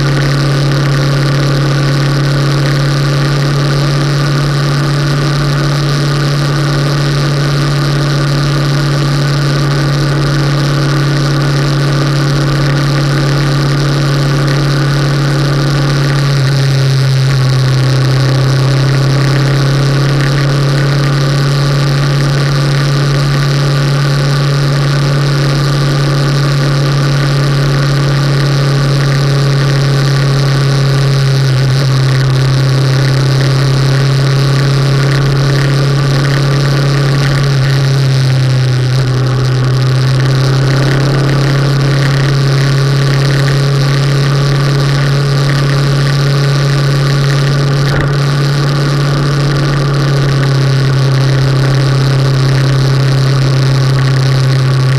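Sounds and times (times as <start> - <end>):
motorcycle engine droning: 0.0 - 54.9.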